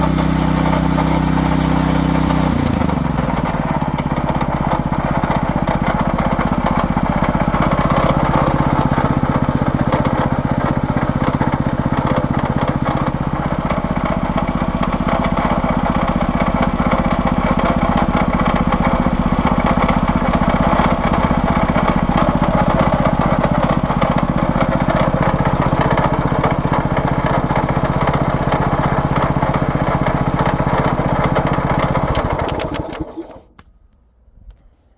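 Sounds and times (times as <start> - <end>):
rototiller engine running: 0.0 - 33.6.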